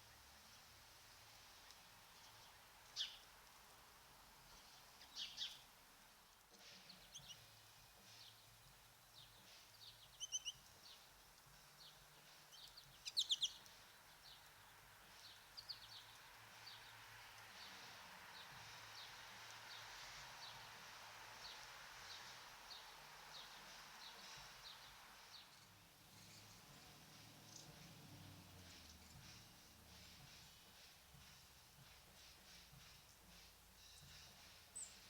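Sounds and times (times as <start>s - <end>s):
faint steady hiss: 0.0s - 35.0s
small birds chirping: 1.3s - 3.6s, 4.4s - 5.8s, 6.6s - 35.0s.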